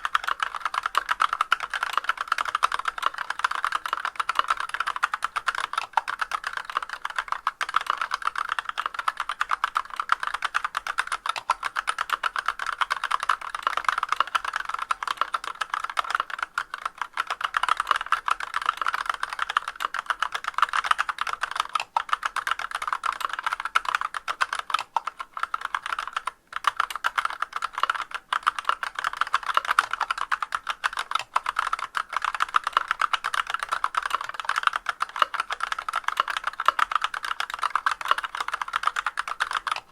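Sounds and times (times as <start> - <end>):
rapid mechanical keyboard typing: 0.0 - 39.9.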